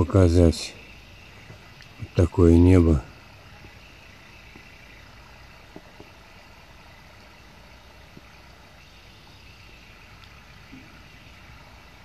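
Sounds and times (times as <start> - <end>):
low outdoor rumble: 0.0 - 12.0
rainwater dripping ticks: 0.3 - 12.0.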